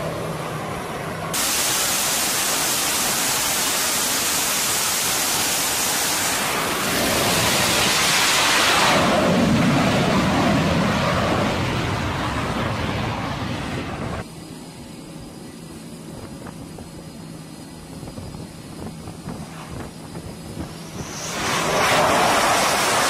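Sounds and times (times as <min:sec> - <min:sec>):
jet engines at full power: 0:00.0 - 0:23.0.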